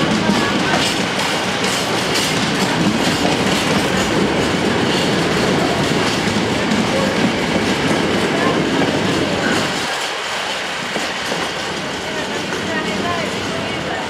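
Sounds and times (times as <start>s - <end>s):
freight train wagons rumbling: 0.0s - 14.0s
wheels clickety-clack on rail joints: 0.0s - 14.0s.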